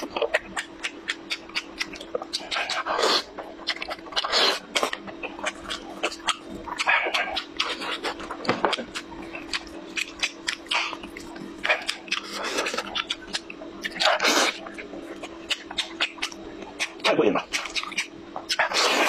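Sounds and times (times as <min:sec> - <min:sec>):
steady low hum: 0:00.0 - 0:19.0
slurping: 0:00.8 - 0:19.0.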